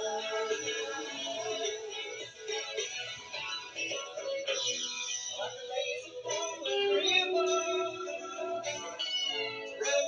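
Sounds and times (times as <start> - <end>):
person singing: 0.0 - 10.0
song on the radio: 0.0 - 10.0.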